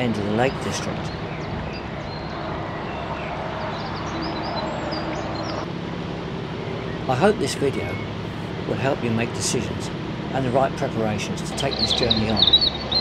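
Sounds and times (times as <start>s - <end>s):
birds chirping: 0.0s - 13.0s
boat engine running: 0.0s - 13.0s.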